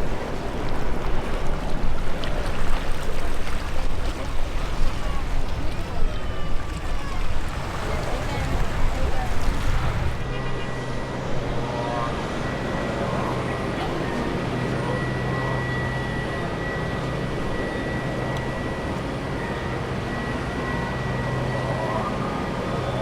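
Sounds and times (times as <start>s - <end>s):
jet engines humming and whining: 0.0s - 23.0s.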